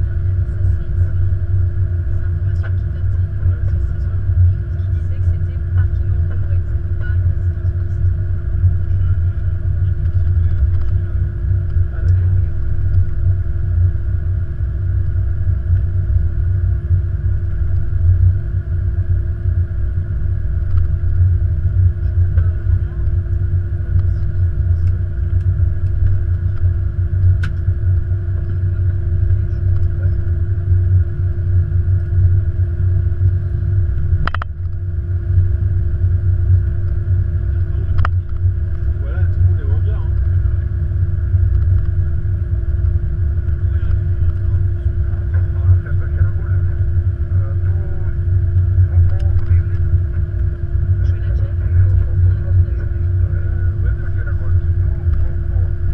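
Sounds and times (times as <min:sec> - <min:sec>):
aircraft wheels rumbling on runway: 0:00.0 - 0:55.9
steady hum: 0:00.0 - 0:55.9.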